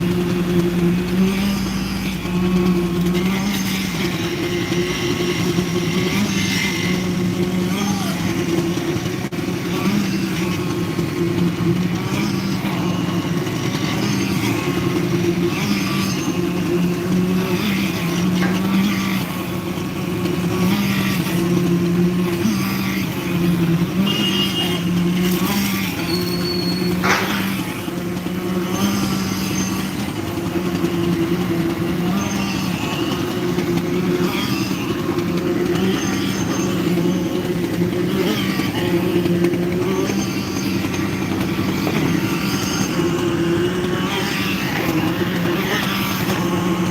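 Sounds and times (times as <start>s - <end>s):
construction machinery droning: 0.0s - 46.9s
heavy diesel engine running: 0.0s - 46.9s.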